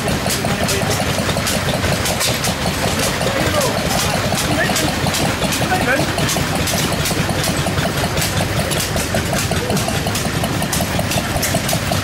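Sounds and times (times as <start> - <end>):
low mechanical rumble: 0.0 - 12.0
rapid mechanical ticking: 0.0 - 12.0
threshing machine running: 0.0 - 12.0.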